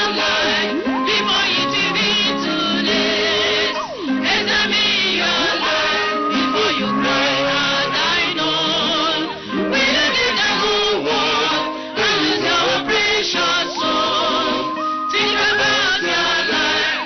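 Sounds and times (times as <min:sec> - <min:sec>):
gospel singing: 0:00.0 - 0:17.0
instrumental backing: 0:00.0 - 0:17.0.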